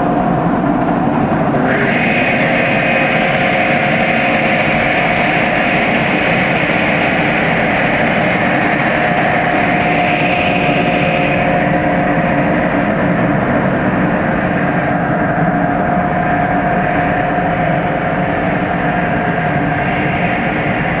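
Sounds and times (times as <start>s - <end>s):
car wash machinery rushing: 0.0s - 21.0s.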